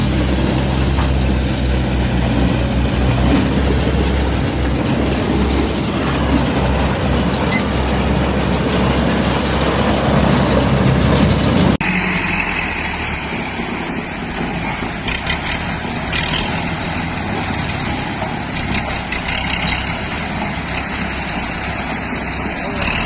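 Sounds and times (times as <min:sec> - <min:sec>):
wood chipper running: 0:00.0 - 0:23.0.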